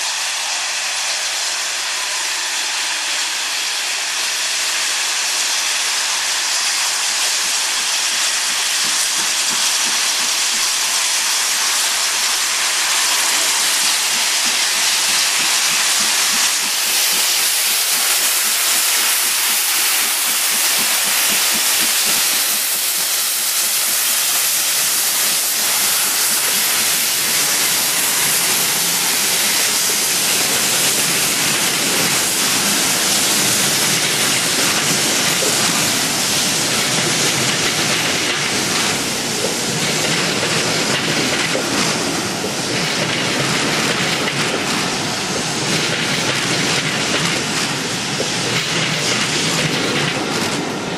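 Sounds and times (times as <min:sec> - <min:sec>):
steam locomotive hissing: 0:00.0 - 0:50.9.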